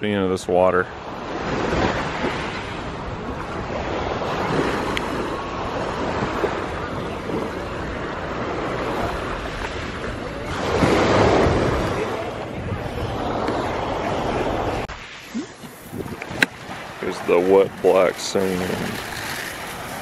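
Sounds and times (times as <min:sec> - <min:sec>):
waves washing onto beach: 0:00.9 - 0:20.0
wind buffeting microphone: 0:01.3 - 0:20.0.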